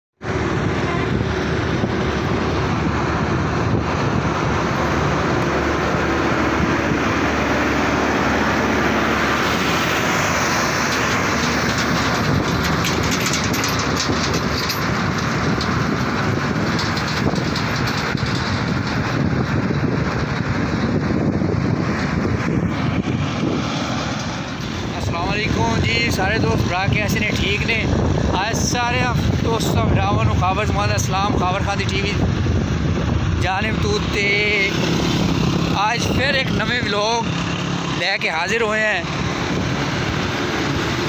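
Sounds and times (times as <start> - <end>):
dense vehicle noise: 0.2 - 41.0.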